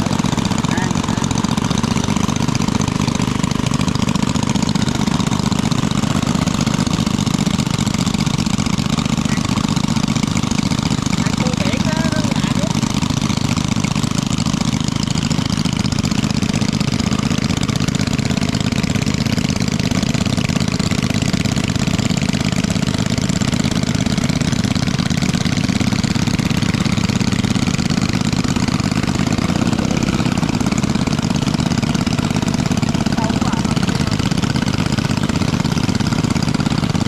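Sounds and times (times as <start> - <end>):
small engine running steadily: 0.0 - 37.0.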